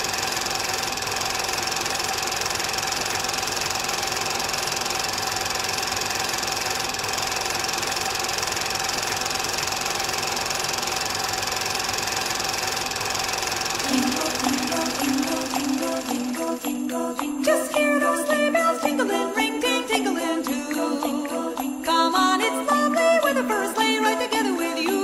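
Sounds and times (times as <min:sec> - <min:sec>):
film projector whirring: 0:00.0 - 0:20.0.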